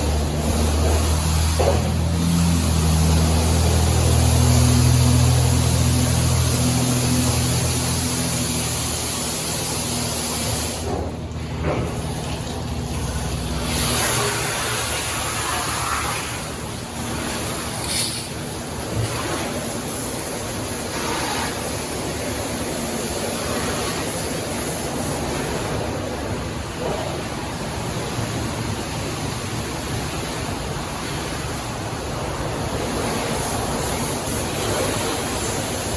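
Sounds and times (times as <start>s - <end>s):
car wash water jets hissing: 0.0s - 35.9s
low machinery hum: 0.0s - 35.9s.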